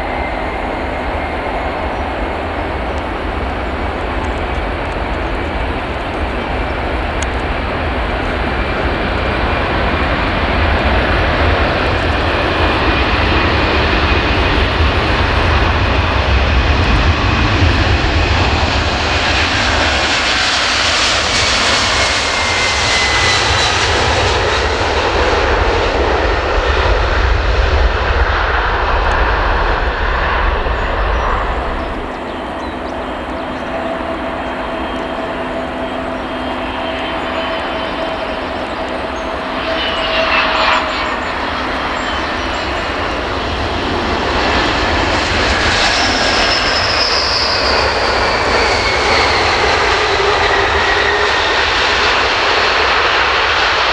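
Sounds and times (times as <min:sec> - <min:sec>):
high whine falling in pitch: 0:00.0 - 0:25.0, 0:25.6 - 0:53.9
jet airliner taking off: 0:00.0 - 0:53.9.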